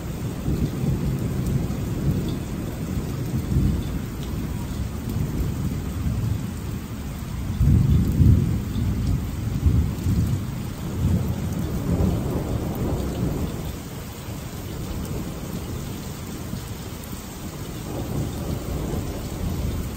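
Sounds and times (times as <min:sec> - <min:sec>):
rain hissing: 0:00.0 - 0:19.9
thunder rumbling: 0:00.0 - 0:19.9.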